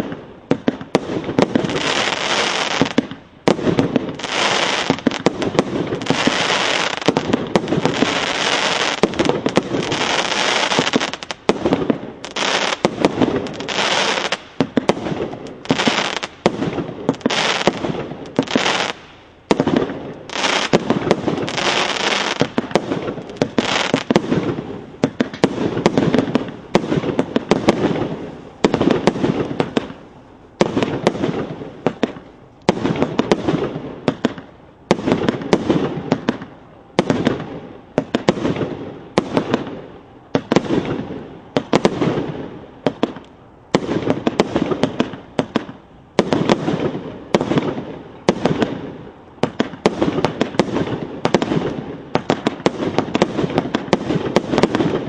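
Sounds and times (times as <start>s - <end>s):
firework bangs with crackling: 0.0s - 55.0s.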